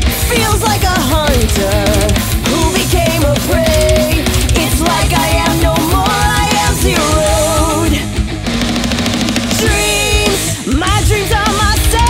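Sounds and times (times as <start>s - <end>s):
rock song: 0.0s - 12.0s.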